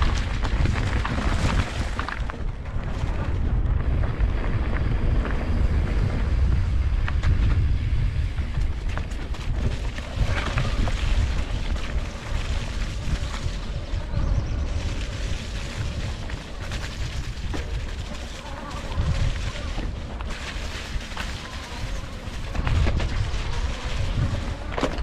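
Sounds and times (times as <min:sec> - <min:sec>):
clicks and rustles on dirt trail: 0:00.0 - 0:25.0
wind buffeting microphone: 0:00.0 - 0:25.0.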